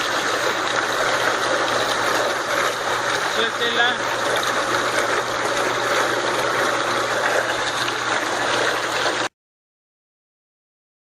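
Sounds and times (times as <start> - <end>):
washing machine water rushing: 0.0 - 9.4.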